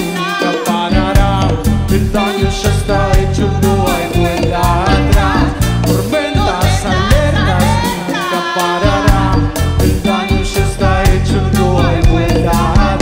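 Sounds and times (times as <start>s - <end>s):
live reggae band: 0.0s - 13.0s
person singing: 0.0s - 13.0s.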